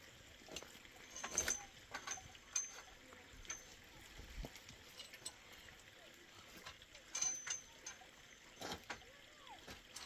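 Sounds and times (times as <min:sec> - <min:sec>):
light knocks and clinks: 0:00.5 - 0:05.7, 0:06.5 - 0:10.0.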